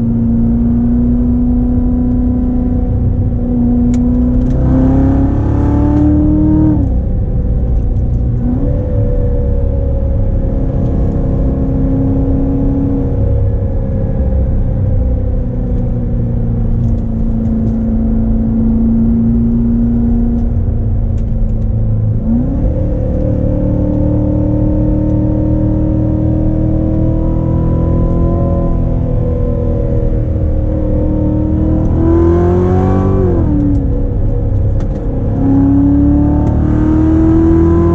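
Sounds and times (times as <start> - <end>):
car engine droning while driving: 0.0 - 37.9
low road rumble: 0.0 - 37.9.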